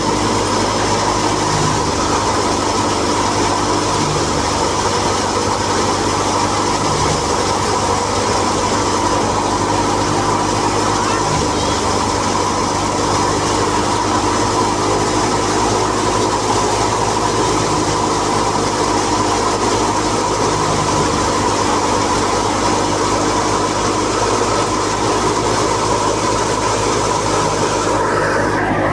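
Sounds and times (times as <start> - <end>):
thresher mechanical drone: 0.0 - 28.9.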